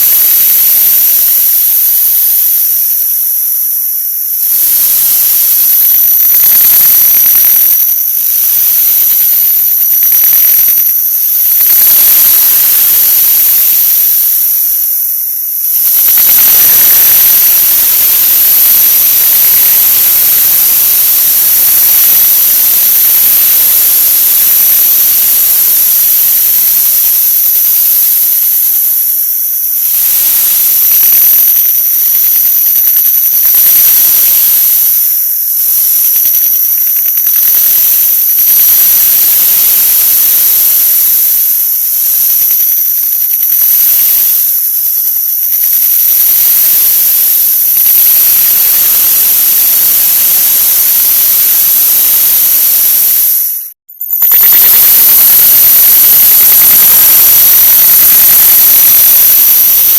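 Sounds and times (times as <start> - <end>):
harsh hiss-like noise with whine: 0.0 - 59.9.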